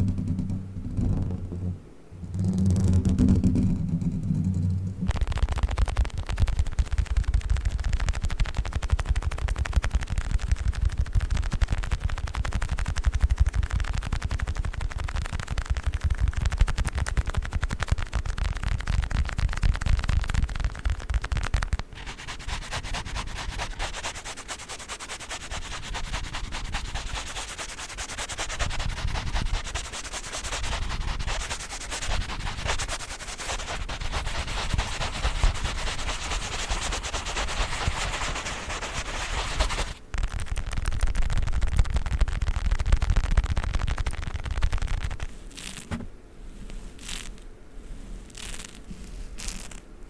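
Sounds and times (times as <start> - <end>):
scratching and tapping on ball: 0.0 - 47.4, 48.3 - 49.9.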